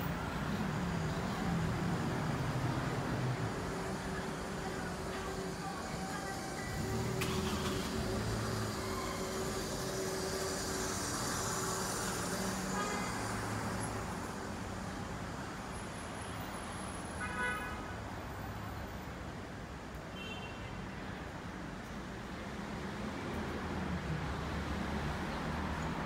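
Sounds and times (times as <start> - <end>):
cars passing on street: 0.0 - 26.0.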